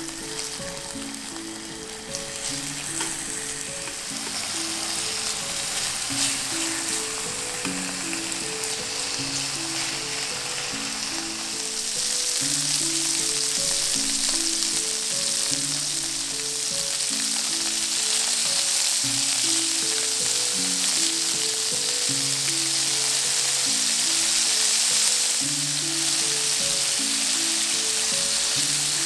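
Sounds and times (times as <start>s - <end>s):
food frying in oil: 0.0s - 29.0s
soft background music: 0.0s - 29.0s.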